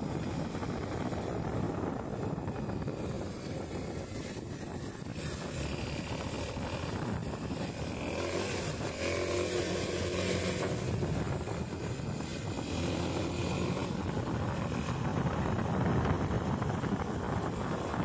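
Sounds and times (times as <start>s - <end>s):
motorcycle engine running: 0.0s - 18.0s
road noise: 0.0s - 18.0s
wind noise: 0.0s - 18.0s.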